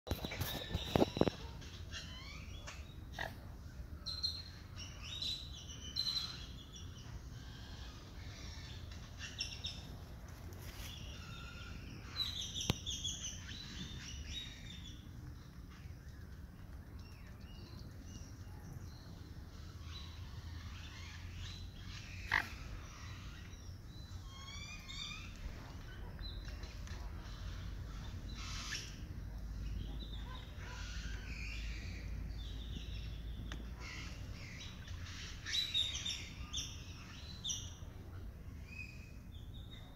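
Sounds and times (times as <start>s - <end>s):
songbirds chirping and singing: 0.1s - 39.9s.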